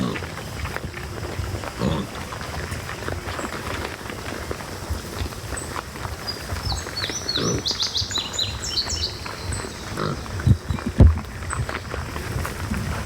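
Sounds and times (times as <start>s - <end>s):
hogs grunting: 0.0s - 13.0s.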